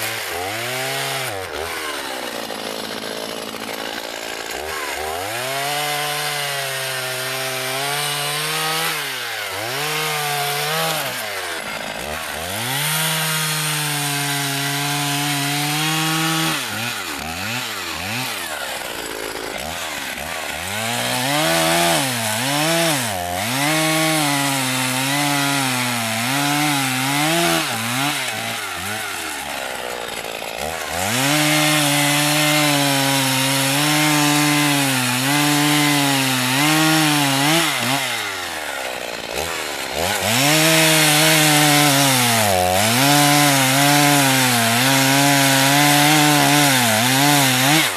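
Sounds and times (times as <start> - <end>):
chainsaw cutting logs: 0.0 - 47.9.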